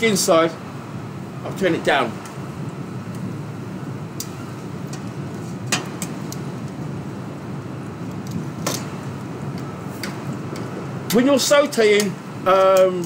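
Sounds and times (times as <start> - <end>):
kitchen ventilation hum: 0.0 - 13.0.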